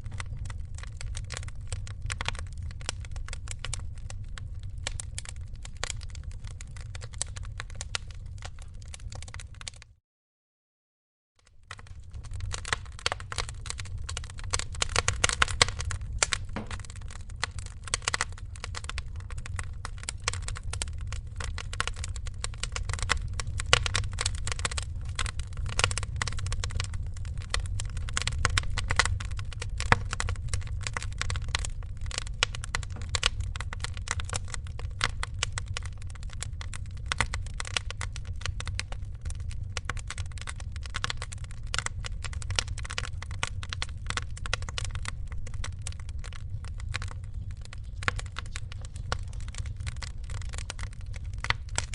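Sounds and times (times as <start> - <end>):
wood fire crackling: 0.0 - 9.9, 11.4 - 51.9.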